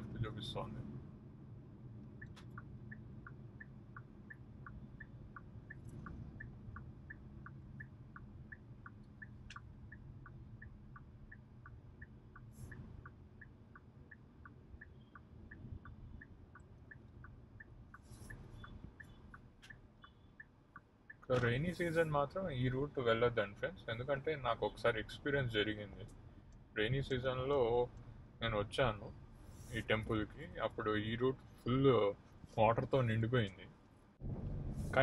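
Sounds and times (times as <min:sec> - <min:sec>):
turn signal ticking: 0:00.0 - 0:34.2
car road hum: 0:00.0 - 0:35.0.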